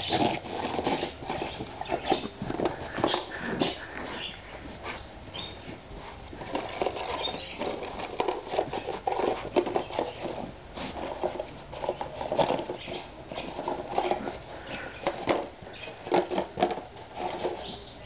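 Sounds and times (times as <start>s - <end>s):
cardboard scraping and rustling: 0.0s - 18.0s.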